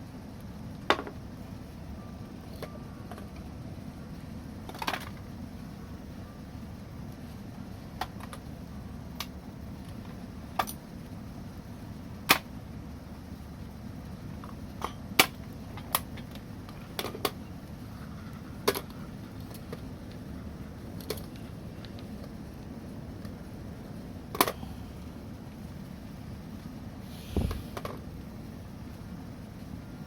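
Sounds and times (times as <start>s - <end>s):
steady low rumble: 3.4s - 30.0s.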